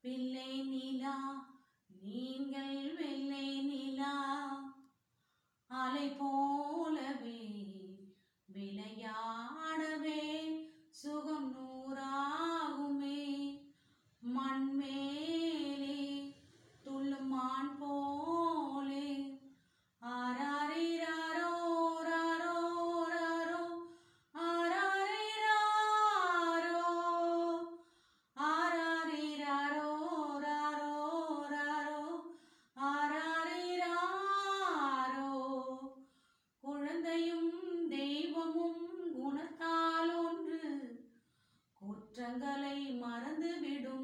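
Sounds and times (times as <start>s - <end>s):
woman singing unaccompanied: 0.0s - 4.8s, 5.7s - 16.3s, 16.9s - 19.4s, 20.0s - 27.8s, 28.4s - 36.0s, 36.6s - 41.0s, 41.8s - 44.0s.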